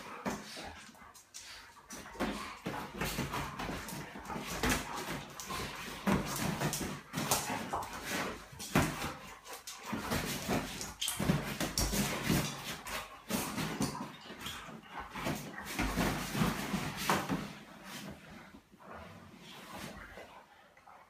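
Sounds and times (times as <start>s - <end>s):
dogs scuffling and snapping: 0.0s - 18.4s.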